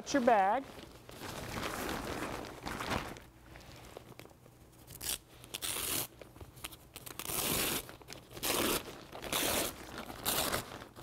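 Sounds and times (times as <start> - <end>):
foil bag crinkling: 0.1 - 5.1, 7.0 - 11.0.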